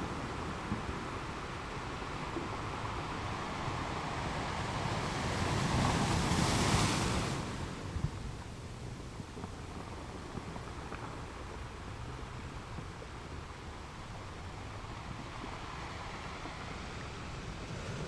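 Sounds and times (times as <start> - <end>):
ocean waves washing onto shore: 0.0 - 18.0.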